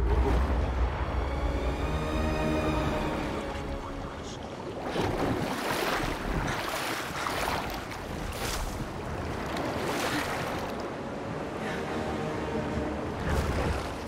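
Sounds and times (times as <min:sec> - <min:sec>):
wading through floodwater: 0:00.0 - 0:14.0.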